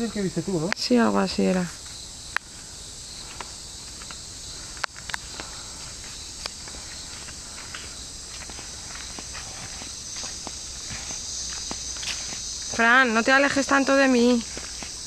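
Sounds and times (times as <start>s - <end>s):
insects chorus: 0.0s - 15.0s
footsteps on dirt trail: 1.6s - 15.0s.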